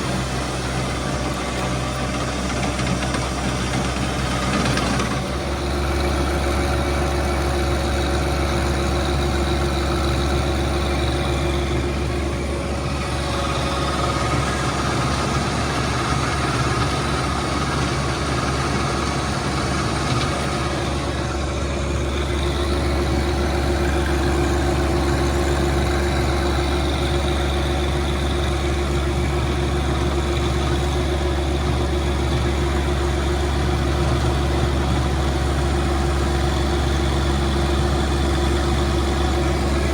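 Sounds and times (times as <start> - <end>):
rototiller churning ground: 0.0 - 39.9
tractor diesel engine running: 0.0 - 39.9.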